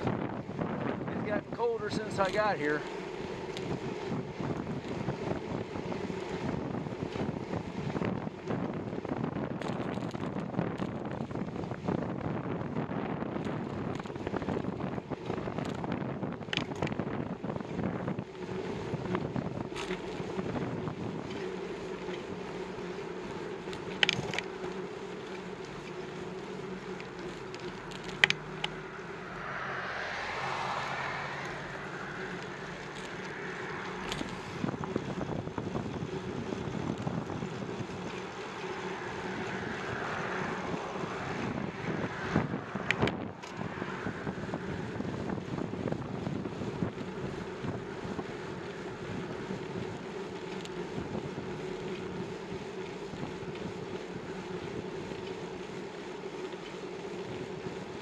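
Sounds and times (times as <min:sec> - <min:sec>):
wind buffeting microphone: 0:00.0 - 0:22.0, 0:26.1 - 0:55.2
bicycle road noise: 0:00.0 - 0:58.0
steady hum: 0:00.0 - 0:58.0.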